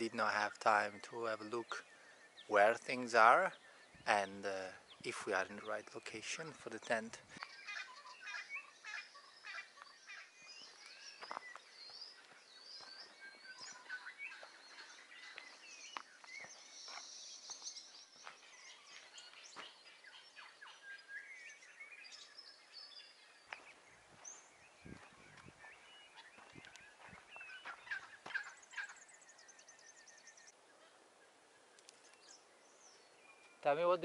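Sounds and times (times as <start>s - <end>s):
birds chirping and whistling: 0.0s - 34.0s.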